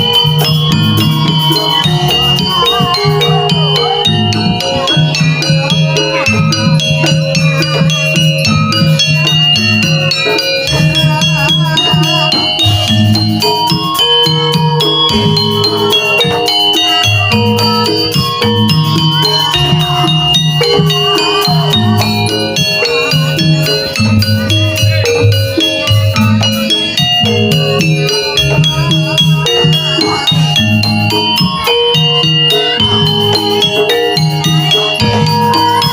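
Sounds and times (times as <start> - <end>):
gamelan music: 0.0 - 35.9
gong-chimes and metallophones: 0.0 - 35.9
wavering melody line: 0.0 - 35.9.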